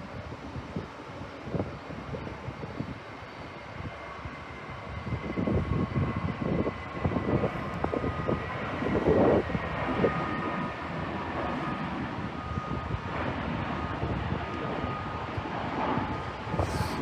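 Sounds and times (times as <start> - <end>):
jet engine whine: 0.0 - 17.0
wind buffeting microphone: 0.0 - 17.0.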